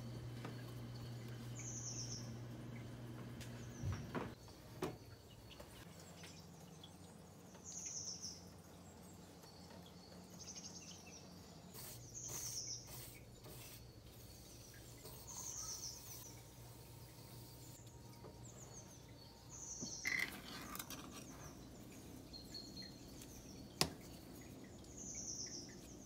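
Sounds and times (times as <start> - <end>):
songbird chirps: 0.0 - 26.0.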